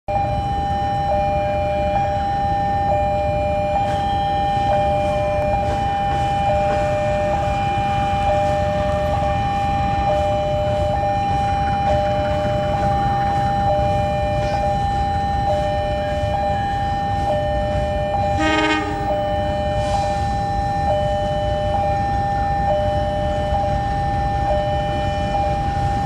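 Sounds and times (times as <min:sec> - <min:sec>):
locomotive rumble: 0:00.1 - 0:26.0
railway warning alarm: 0:00.1 - 0:26.0.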